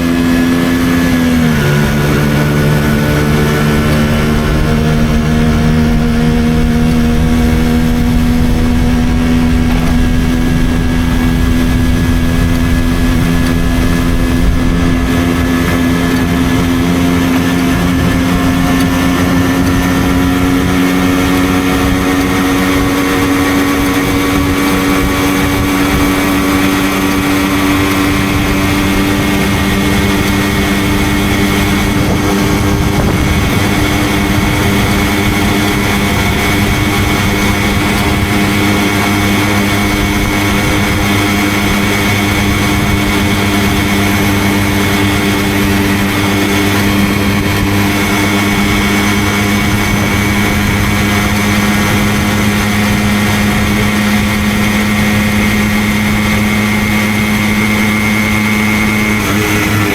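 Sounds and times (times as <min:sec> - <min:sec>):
moped engine running: 0:00.0 - 0:59.9.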